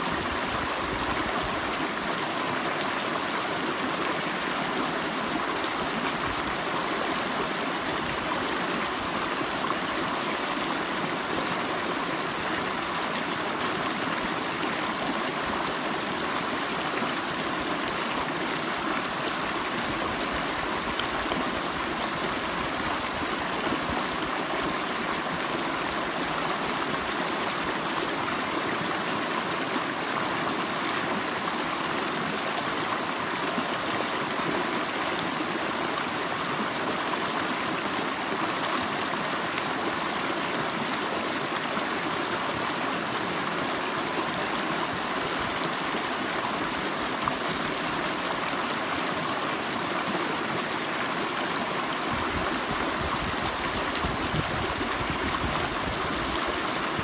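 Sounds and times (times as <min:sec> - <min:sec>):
creek rushing over rocks: 0:00.0 - 0:57.0.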